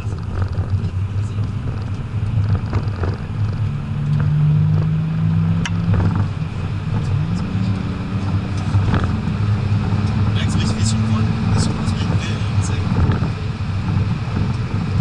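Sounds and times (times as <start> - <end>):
diesel engine drone in cabin: 0.0 - 15.0.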